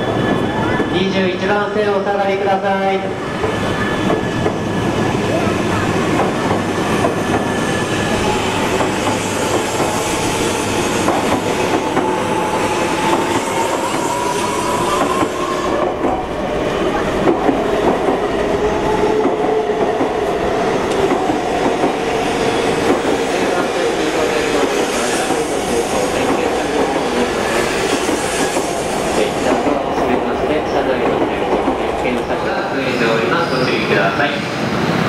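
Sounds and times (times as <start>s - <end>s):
wheels rumbling on rail: 3.3s - 33.0s.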